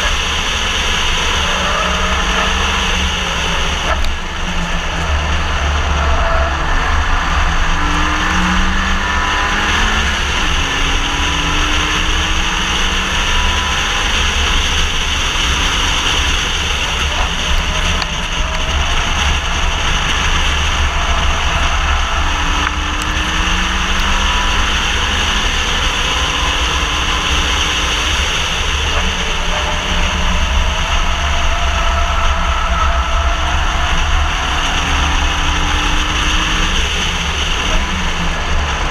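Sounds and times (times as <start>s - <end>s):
car engine accelerating: 0.0s - 38.9s
road noise: 0.0s - 38.9s
wind rumble: 0.0s - 38.9s.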